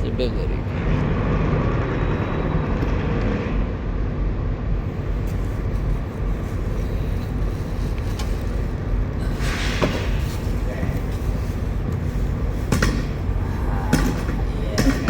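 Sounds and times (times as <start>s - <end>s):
truck engines idling: 0.0s - 15.0s.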